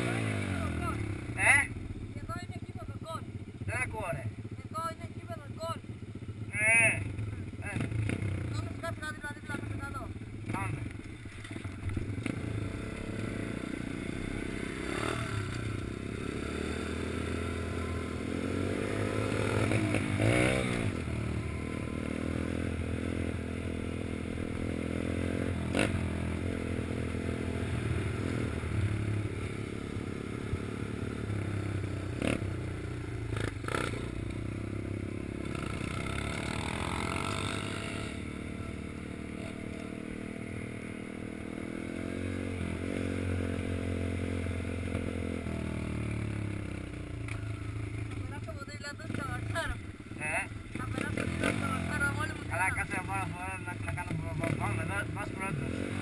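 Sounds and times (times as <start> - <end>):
pit bike engine running: 0.0 - 56.0.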